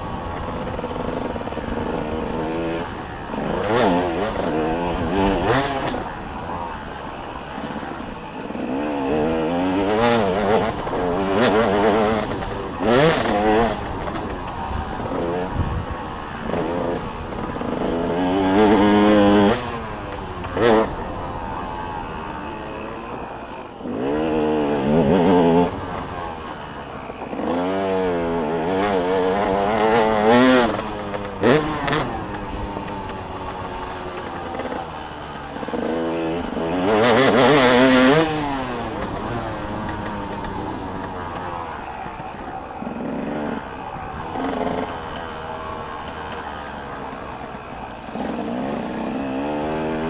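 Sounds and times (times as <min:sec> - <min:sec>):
dirt bike engines revving: 0:00.0 - 0:50.0
drone of other bikes: 0:00.0 - 0:50.0.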